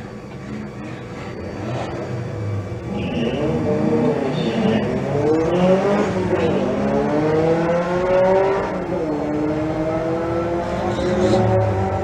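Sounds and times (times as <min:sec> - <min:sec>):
race cars accelerating hard: 0:00.4 - 0:12.0.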